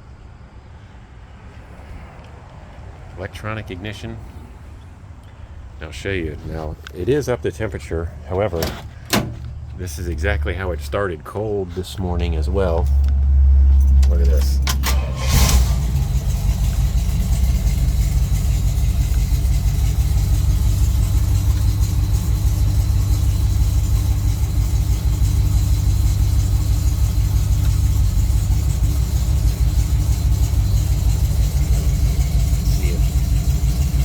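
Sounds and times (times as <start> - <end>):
engine idling: 4.2 - 34.0.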